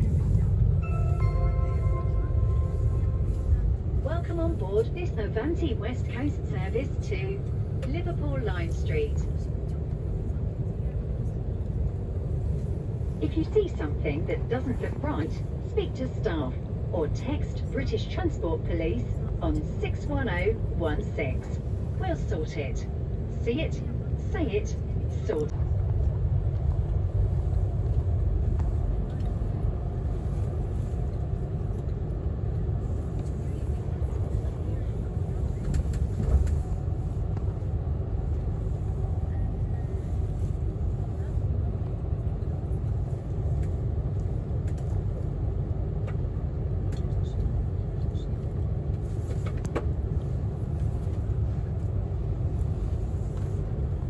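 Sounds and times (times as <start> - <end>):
train rumble inside carriage: 0.0 - 54.0.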